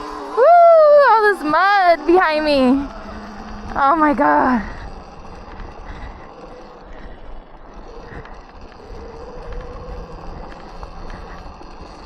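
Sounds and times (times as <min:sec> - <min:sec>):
electric motor whine: 0:00.0 - 0:12.0
wind noise: 0:00.9 - 0:12.0.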